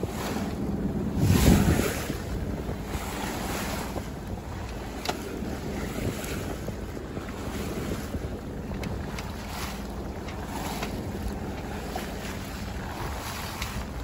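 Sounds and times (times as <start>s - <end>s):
water washing along hull: 0.0s - 14.0s
wind buffeting microphone: 0.0s - 14.0s.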